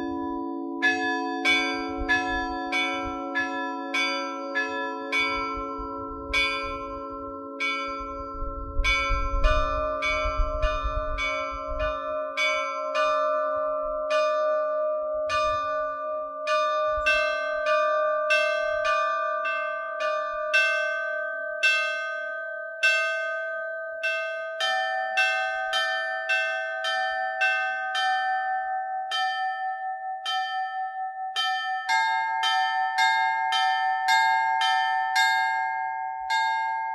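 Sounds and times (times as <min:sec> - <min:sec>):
church bells ringing: 0:00.0 - 0:36.9.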